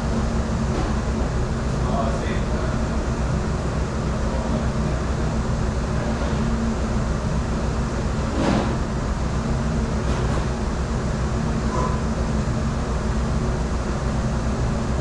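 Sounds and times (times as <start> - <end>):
dishwashing machinery humming: 0.0 - 15.0.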